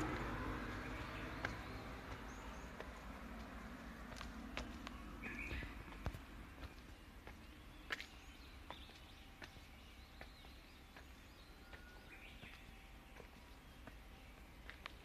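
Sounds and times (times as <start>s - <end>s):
footsteps on stone steps: 0.0s - 15.0s.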